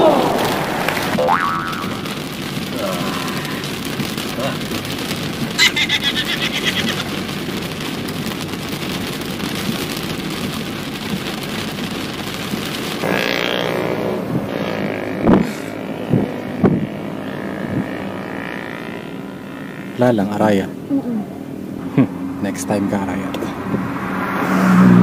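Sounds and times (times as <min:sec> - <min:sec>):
rain on car: 0:00.0 - 0:25.0
road noise inside car: 0:00.0 - 0:25.0.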